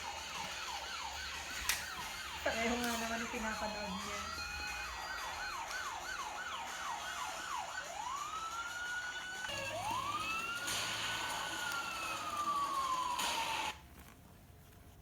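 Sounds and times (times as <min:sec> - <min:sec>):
toy police siren: 0:00.0 - 0:13.8.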